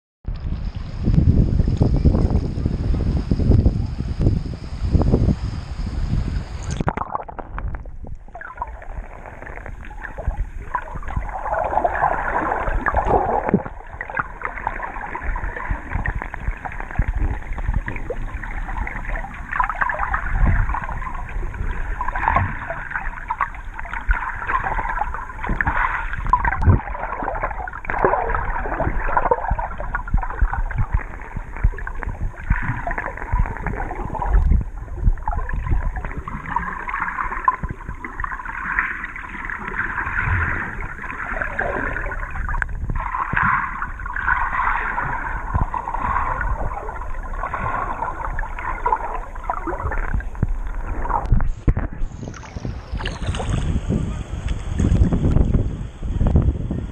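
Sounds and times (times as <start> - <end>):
underwater gurgling and sloshing: 0.2 - 56.9.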